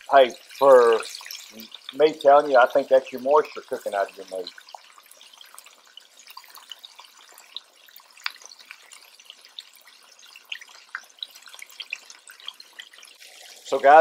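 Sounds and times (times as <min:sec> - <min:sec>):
meat deep-frying in oil: 0:00.0 - 0:14.0
oil popping and crackling: 0:00.0 - 0:14.0.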